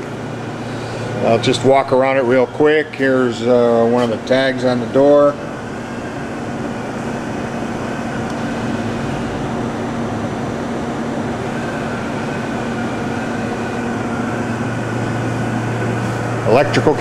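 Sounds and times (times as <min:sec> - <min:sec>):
machining center drone: 0:00.0 - 0:17.0.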